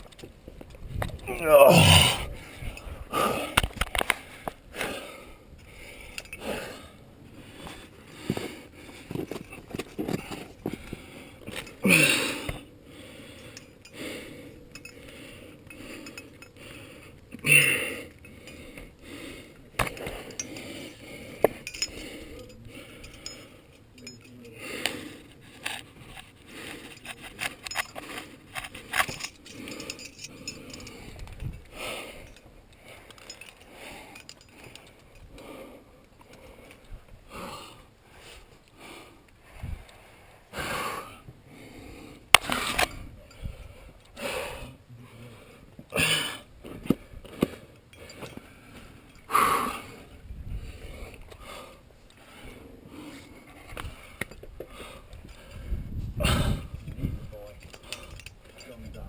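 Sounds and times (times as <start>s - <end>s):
metal climbing gear clinking: 0.0s - 38.8s, 41.8s - 44.6s, 45.8s - 59.0s.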